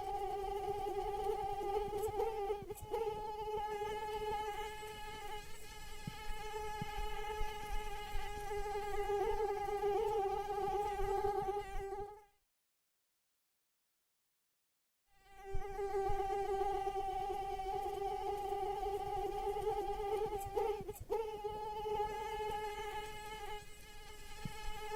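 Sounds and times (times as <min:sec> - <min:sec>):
mosquito wingbeat whine: 0:00.0 - 0:12.1, 0:15.3 - 0:24.9.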